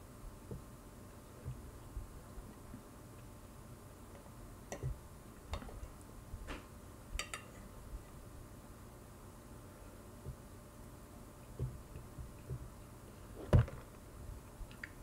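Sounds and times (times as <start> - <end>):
faint room noise: 0.0 - 15.0.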